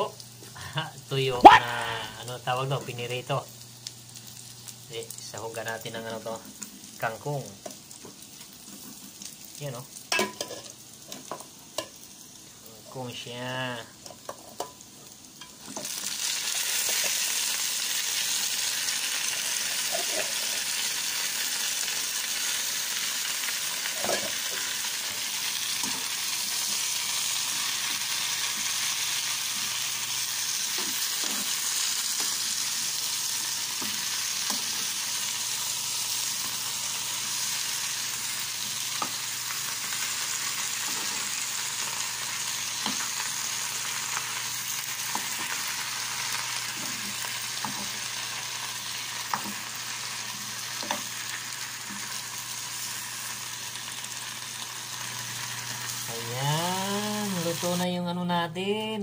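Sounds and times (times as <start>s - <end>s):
greens sizzling in hot oil: 0.0s - 58.0s.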